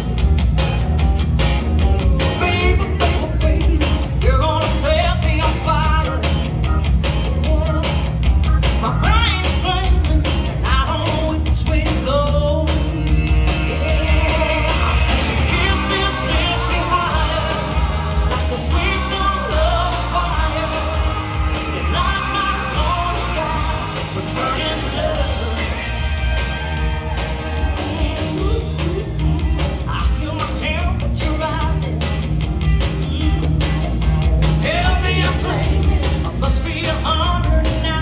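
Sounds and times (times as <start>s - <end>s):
song with singer over loudspeakers: 1.8s - 33.8s, 34.4s - 38.0s.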